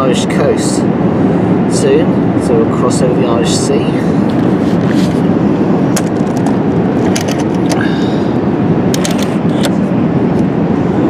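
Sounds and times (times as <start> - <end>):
airplane cabin noise: 0.0 - 11.0.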